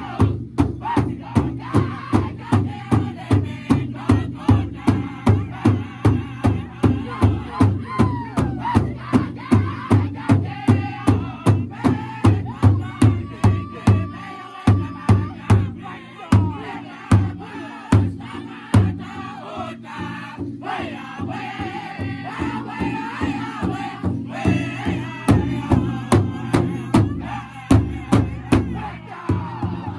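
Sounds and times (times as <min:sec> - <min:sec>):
group singing in chanting voices: 0:00.0 - 0:29.9.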